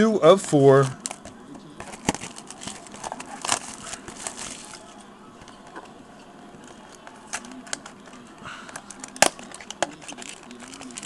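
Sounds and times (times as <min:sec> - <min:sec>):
wrapper crinkling: 0:00.7 - 0:05.6, 0:06.6 - 0:11.0.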